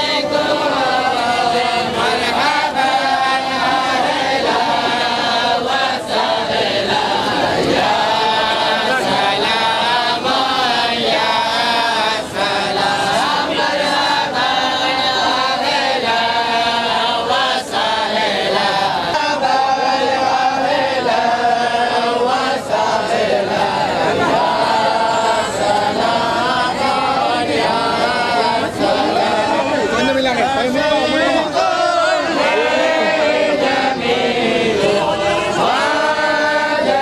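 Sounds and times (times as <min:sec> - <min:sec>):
men chanting in unison: 0:00.0 - 0:37.0.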